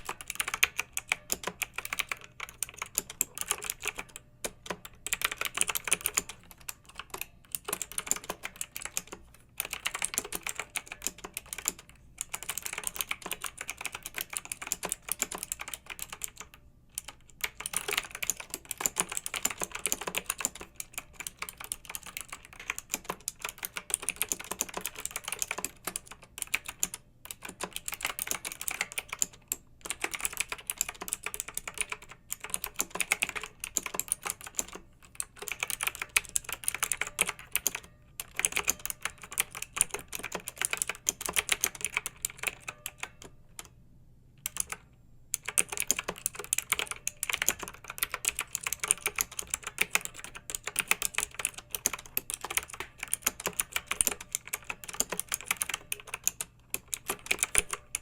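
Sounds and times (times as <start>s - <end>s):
fast typing on mechanical keyboard: 0.0s - 43.7s, 44.4s - 44.8s, 45.4s - 58.0s.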